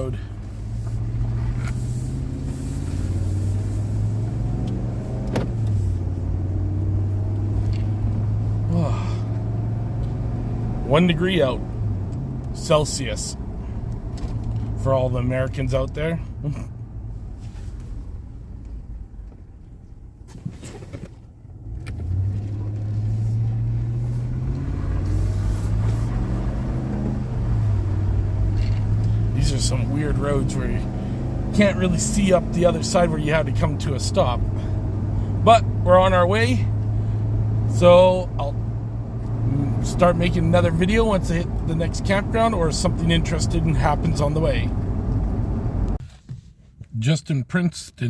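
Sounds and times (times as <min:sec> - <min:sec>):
vehicle engine and road noise: 0:00.0 - 0:47.6.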